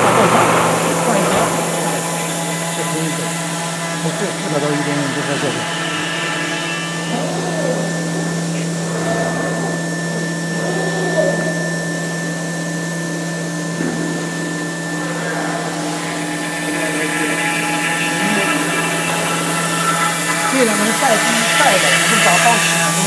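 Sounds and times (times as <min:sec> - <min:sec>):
cnc router machine running: 0:00.0 - 0:23.0.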